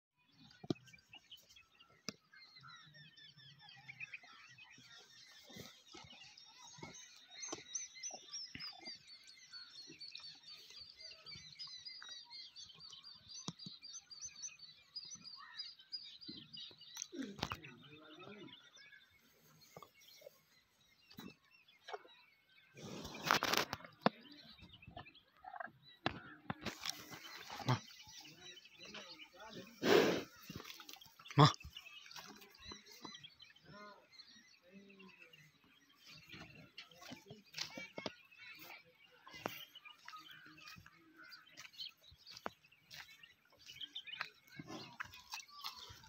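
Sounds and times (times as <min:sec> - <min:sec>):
small birds chirping: 0:00.2 - 0:46.0.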